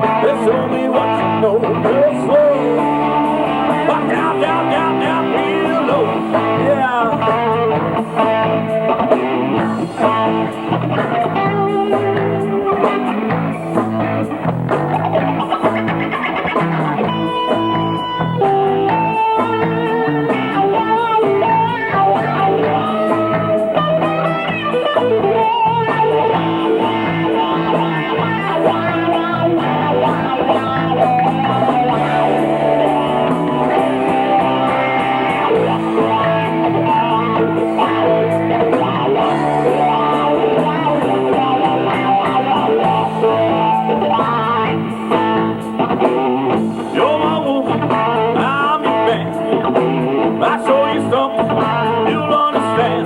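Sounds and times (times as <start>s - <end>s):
band backing: 0.0s - 53.0s
guitar lead with bending notes: 0.0s - 53.0s.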